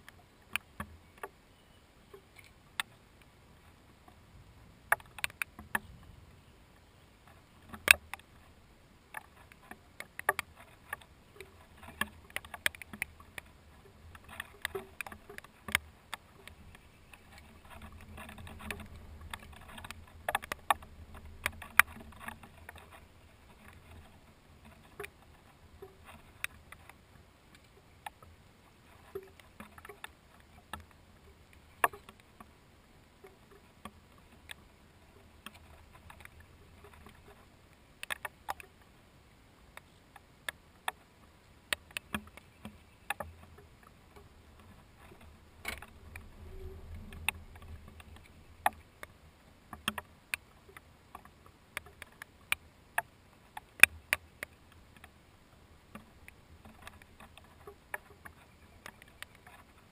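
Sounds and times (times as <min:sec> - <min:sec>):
faint low rumble: 0:00.0 - 0:59.9.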